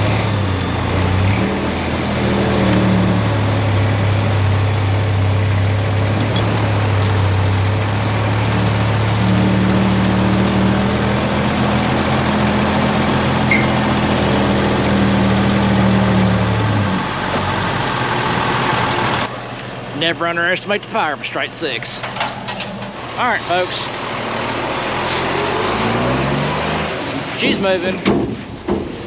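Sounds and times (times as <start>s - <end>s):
higher engine tone: 0.0s - 28.1s
truck engines under load: 0.0s - 29.0s.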